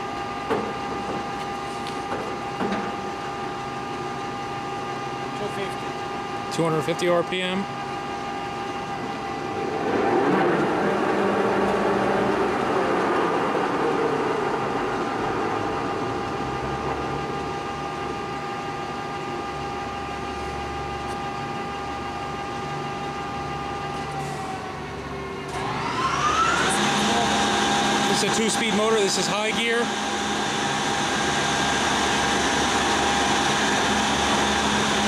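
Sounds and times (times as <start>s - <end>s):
lathe spindle gearing whine: 0.0s - 35.0s.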